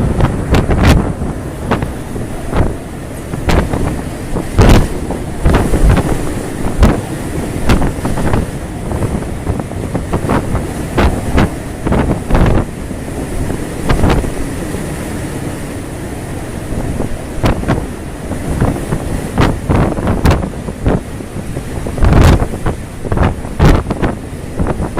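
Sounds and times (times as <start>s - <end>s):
wind and sea rushing: 0.0s - 24.9s
wind gusts hitting microphone: 0.0s - 24.9s.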